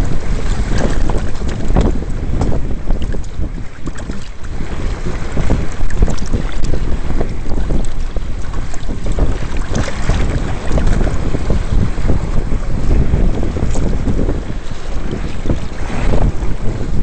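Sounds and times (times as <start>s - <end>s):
water slapping against hull: 0.0s - 17.0s
wind buffeting microphone: 0.0s - 17.0s.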